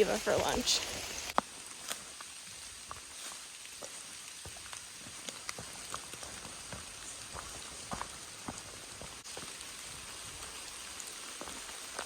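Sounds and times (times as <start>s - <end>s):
soft rain hiss: 0.0s - 12.0s.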